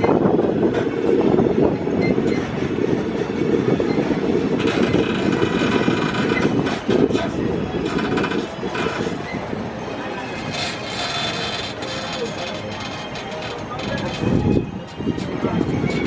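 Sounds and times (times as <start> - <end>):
tram rolling rumble: 0.0 - 16.0.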